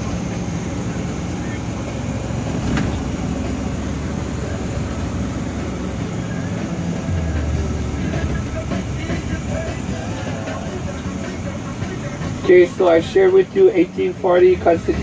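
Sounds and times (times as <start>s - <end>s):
low hum: 0.0s - 15.0s
road and engine noise: 0.0s - 15.0s.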